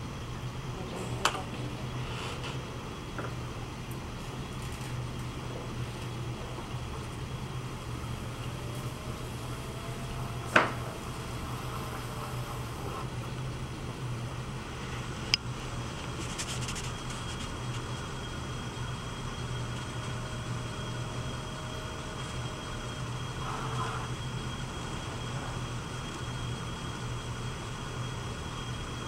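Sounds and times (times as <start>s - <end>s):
potter's wheel humming: 0.0s - 29.0s.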